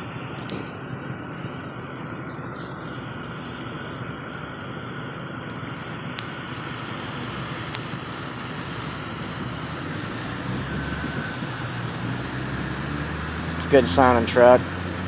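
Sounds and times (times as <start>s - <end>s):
diesel trucks rumbling: 0.0s - 15.0s.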